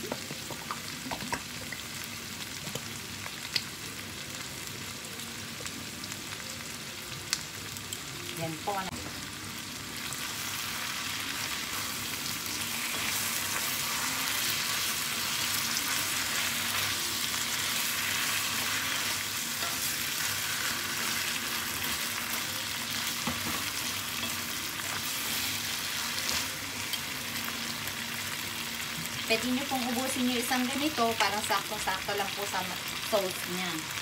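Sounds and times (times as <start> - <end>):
food sizzling in a hot pan: 0.0 - 34.0.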